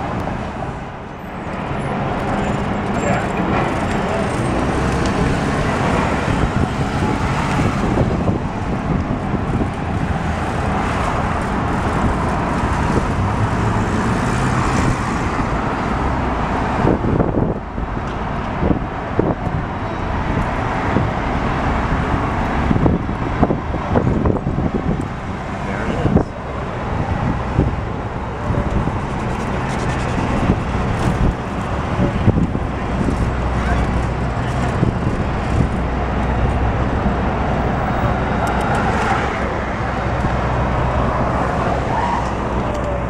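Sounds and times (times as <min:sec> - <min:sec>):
cars passing close by: 0:00.0 - 0:43.0
road noise rushing: 0:00.0 - 0:43.0.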